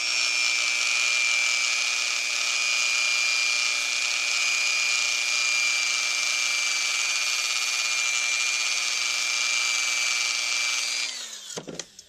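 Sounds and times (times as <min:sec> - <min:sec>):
rotary tool whining: 0:00.0 - 0:12.0.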